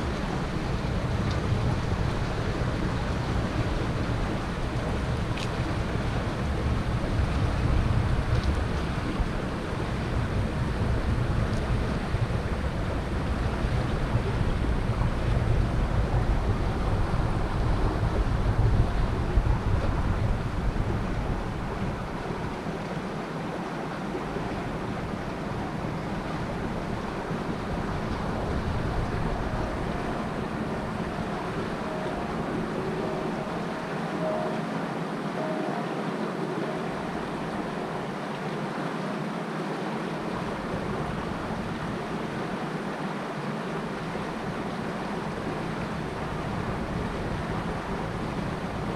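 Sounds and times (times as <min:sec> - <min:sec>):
wind buffeting microphone: 0:00.0 - 0:35.4, 0:43.8 - 0:48.9
river water washing: 0:00.0 - 0:48.9.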